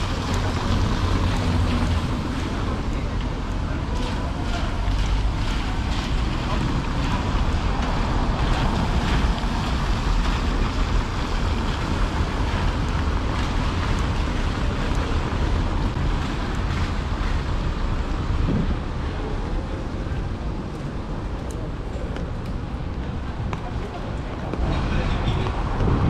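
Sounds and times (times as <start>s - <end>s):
traffic on wet roads: 0.0s - 26.0s
tyre hiss on wet cobblestones: 0.0s - 26.0s
wind buffeting microphone: 0.0s - 26.0s.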